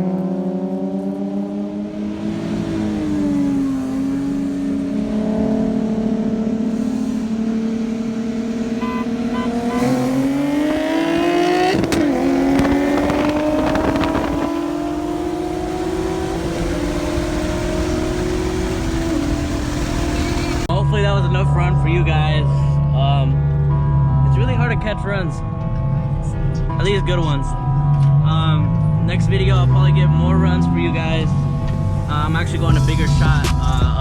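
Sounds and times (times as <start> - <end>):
car engine accelerating hard: 0.0 - 20.7, 26.0 - 34.0.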